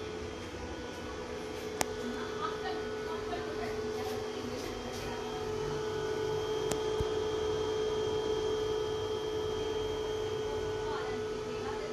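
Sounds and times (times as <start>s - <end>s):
inverter electrical hum: 0.0s - 11.9s.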